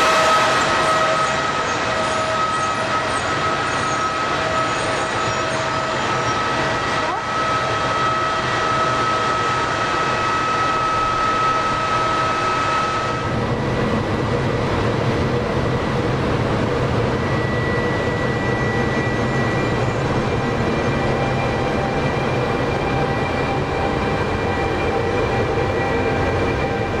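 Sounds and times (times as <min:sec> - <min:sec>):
electric locomotive humming: 0:00.0 - 0:27.0.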